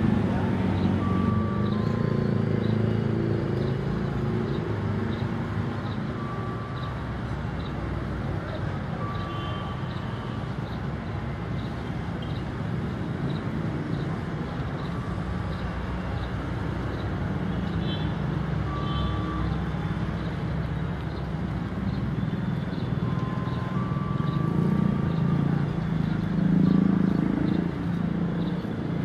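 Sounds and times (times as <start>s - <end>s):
traffic noise: 0.0s - 29.0s.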